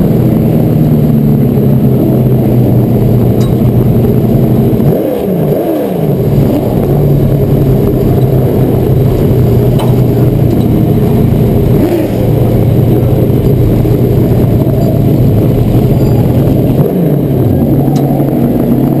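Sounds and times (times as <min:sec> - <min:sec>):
race car engine running: 0:00.0 - 0:19.0.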